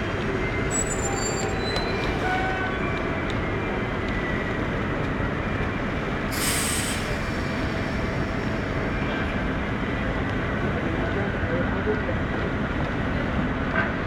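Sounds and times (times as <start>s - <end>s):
trolleybus rumbling: 0.0s - 14.0s.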